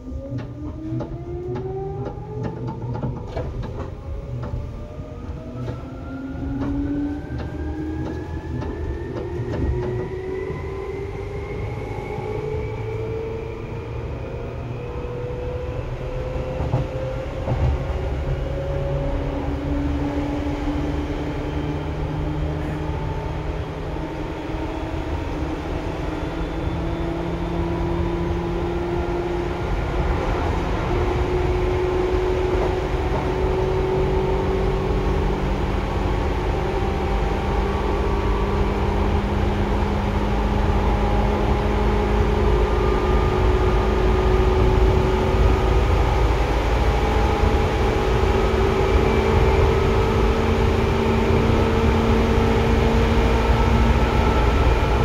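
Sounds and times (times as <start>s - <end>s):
electric train motor whine: 0.0s - 55.0s
wheels rumbling on rail: 0.0s - 55.0s.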